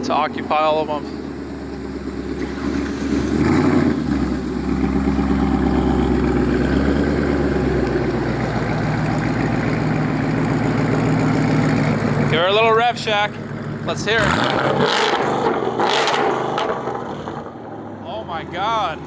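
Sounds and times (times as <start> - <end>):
car engines idling: 0.0 - 19.0.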